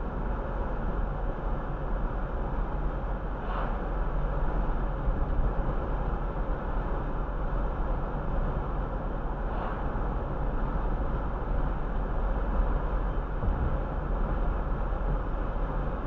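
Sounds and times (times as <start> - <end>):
car engine hum: 0.0 - 16.0
road and tyre noise: 0.0 - 16.0.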